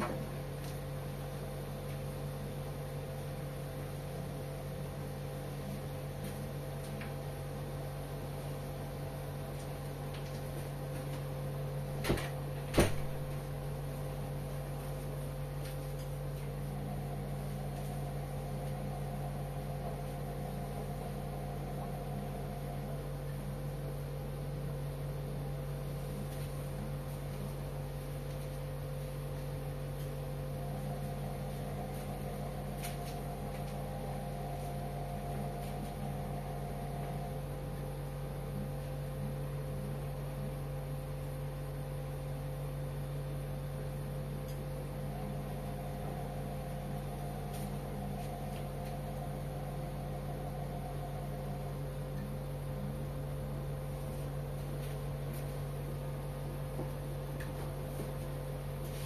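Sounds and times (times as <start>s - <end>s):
faint high whine: 0.0s - 59.0s
washing machine motor hum: 0.0s - 59.0s.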